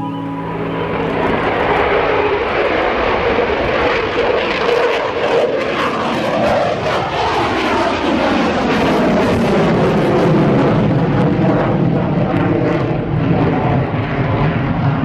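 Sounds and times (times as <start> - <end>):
aircraft engine passing: 0.0 - 15.0.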